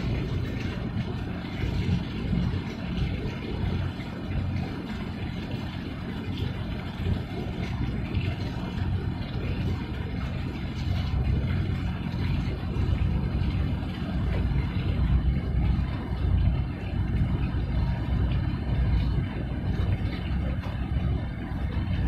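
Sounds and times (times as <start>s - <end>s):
tugboat diesel engine rumble: 0.0s - 22.0s.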